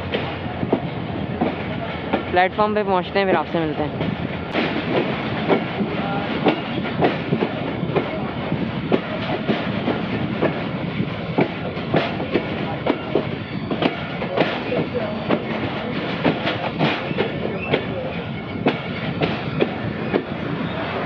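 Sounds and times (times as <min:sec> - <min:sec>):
train running rumble: 0:00.0 - 0:21.0
train wheels clacking on track: 0:00.0 - 0:21.0.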